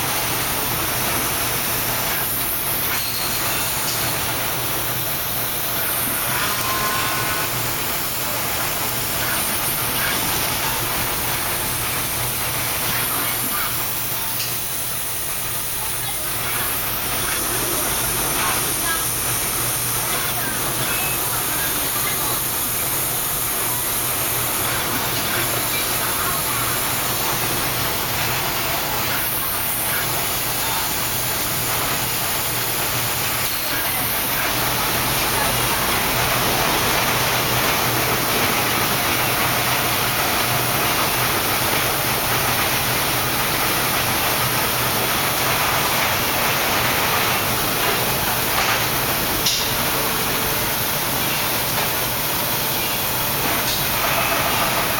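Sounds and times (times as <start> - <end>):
factory machinery hiss and hum: 0.0 - 54.9.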